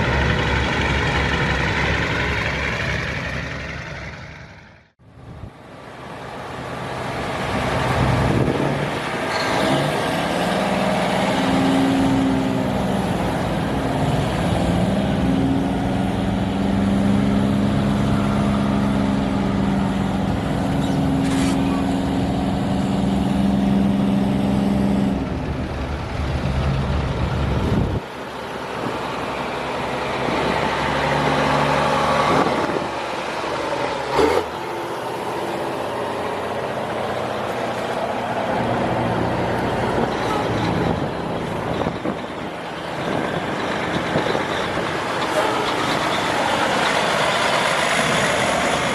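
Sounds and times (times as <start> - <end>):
diesel truck engine under load: 0.0 - 48.9.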